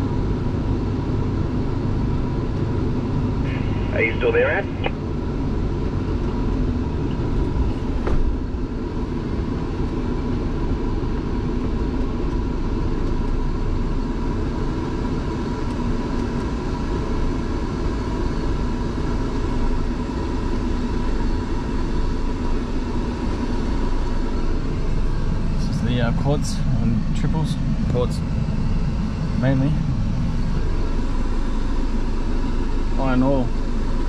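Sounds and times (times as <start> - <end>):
diesel trucks rumbling: 0.0 - 34.0.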